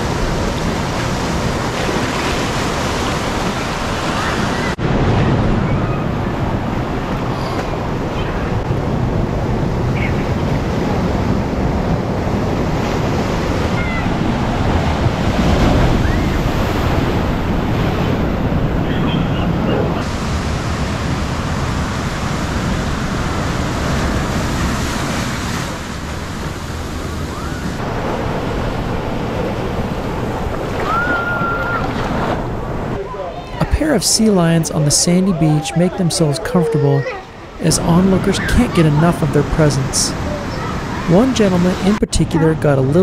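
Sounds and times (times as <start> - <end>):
waves breaking on rocks: 0.0 - 43.0.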